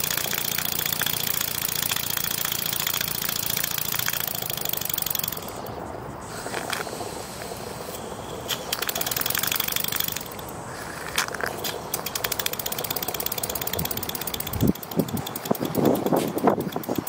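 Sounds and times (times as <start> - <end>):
steam engine ticking and puffing: 0.0 - 17.0.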